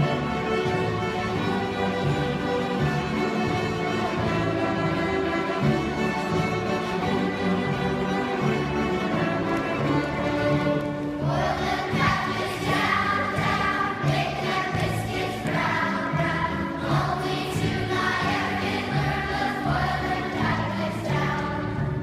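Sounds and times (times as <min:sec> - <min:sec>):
bowed strings: 0:00.0 - 0:22.0
choir singing: 0:00.0 - 0:22.0.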